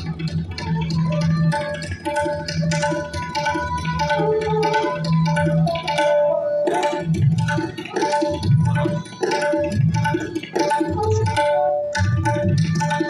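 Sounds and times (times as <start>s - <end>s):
tabla playing fast strokes: 0.0s - 13.0s.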